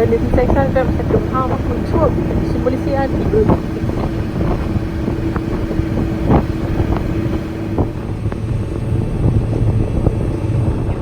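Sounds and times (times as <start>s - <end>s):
boat engine running: 0.0s - 11.0s
steady engine hum: 0.0s - 11.0s
wind buffeting microphone: 0.0s - 11.0s.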